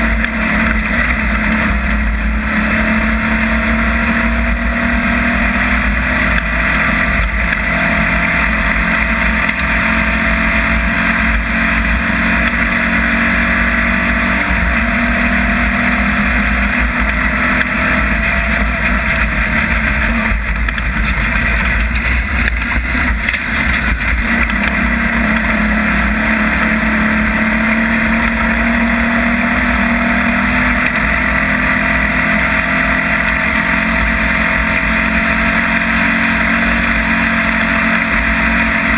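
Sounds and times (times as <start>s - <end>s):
race vehicle engine running hard: 0.0s - 38.9s.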